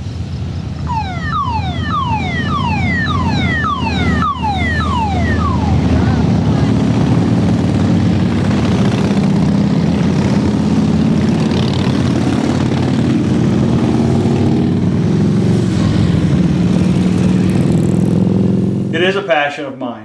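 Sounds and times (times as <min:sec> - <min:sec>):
vehicle engine running: 0:00.9 - 0:18.9.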